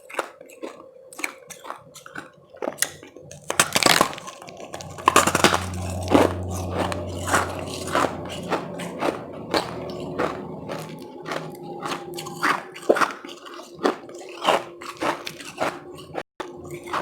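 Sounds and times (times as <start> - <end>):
crunching ice in mouth: 0.0 - 17.0.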